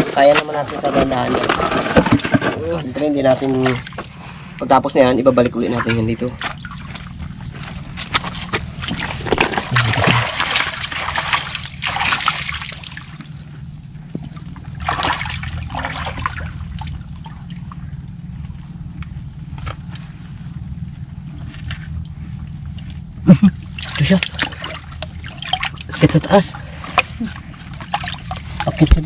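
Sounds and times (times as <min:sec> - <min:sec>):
shallow water splashing: 0:00.0 - 0:29.0.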